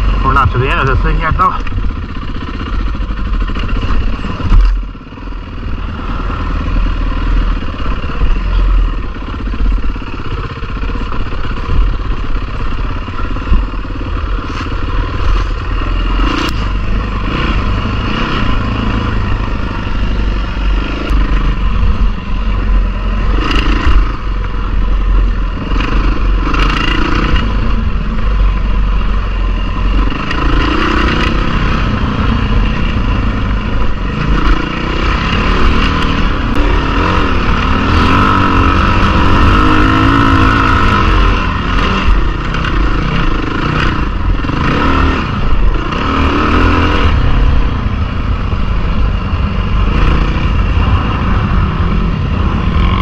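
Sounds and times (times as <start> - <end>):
dirt bike engine: 0.0 - 53.0.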